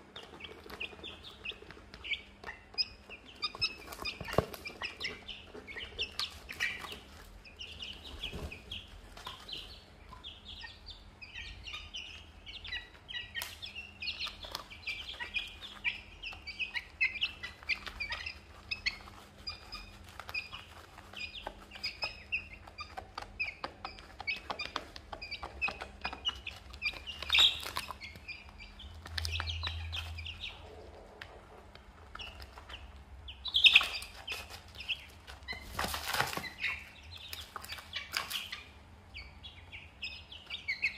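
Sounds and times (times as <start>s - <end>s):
beaks pecking on plastic tray: 0.0s - 38.7s
chicks peeping: 0.0s - 40.9s.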